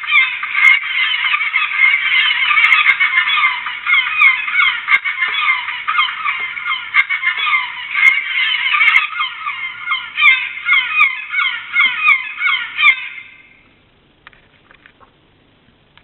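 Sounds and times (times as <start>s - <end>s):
tinny recorded bird calls: 0.0s - 16.0s.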